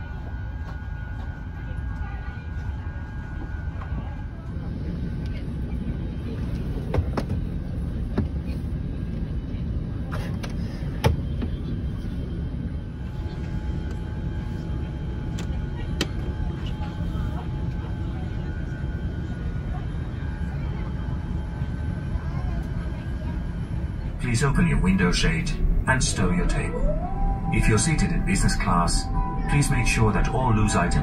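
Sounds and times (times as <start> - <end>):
aircraft cabin rumble: 0.0 - 31.0.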